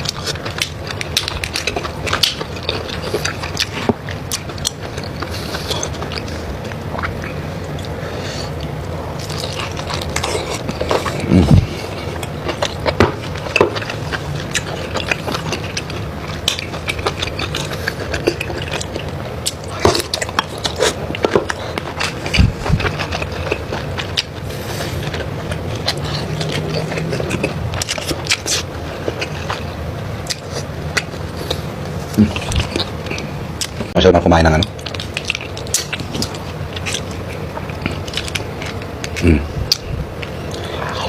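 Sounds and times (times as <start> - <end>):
chewing and crunching: 0.0 - 41.0.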